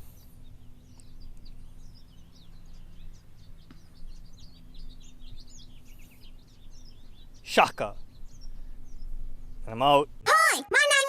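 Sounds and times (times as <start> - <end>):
steady low hum: 0.0 - 10.3
small birds chirping: 0.0 - 11.0.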